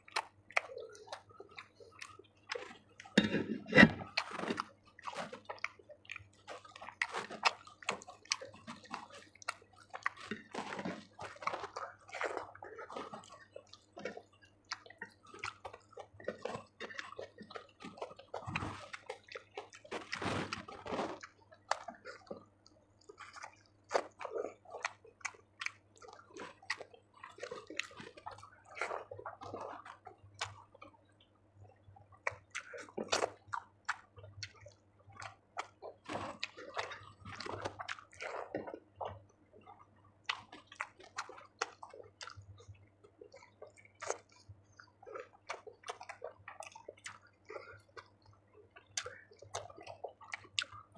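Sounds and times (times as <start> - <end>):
wet chewing and mouth smacks: 0.0 - 50.9.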